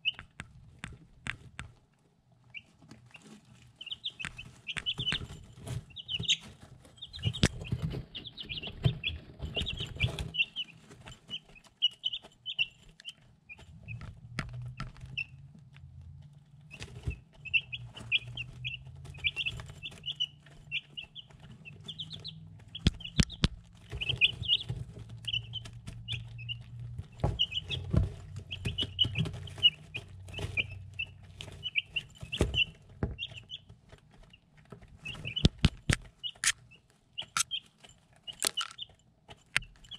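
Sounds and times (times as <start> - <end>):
chicks peeping: 0.0 - 1.8, 2.4 - 39.9.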